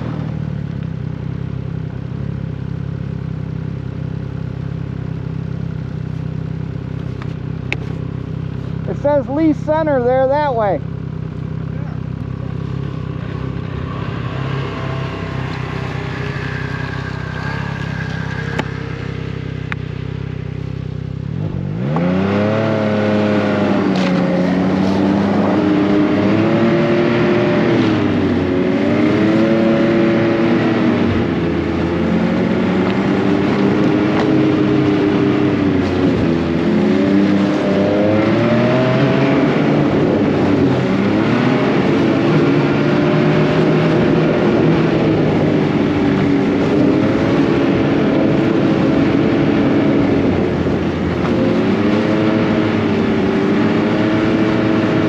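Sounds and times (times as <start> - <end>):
snowmobile engine revving: 8.8 - 10.8, 11.6 - 20.6, 21.3 - 55.0.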